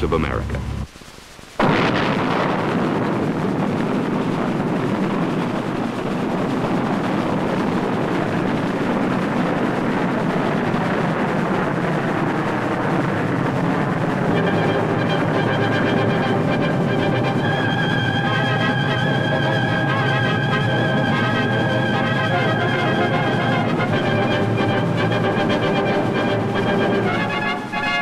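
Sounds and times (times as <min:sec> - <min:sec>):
rocket motor roaring: 0:01.6 - 0:28.0.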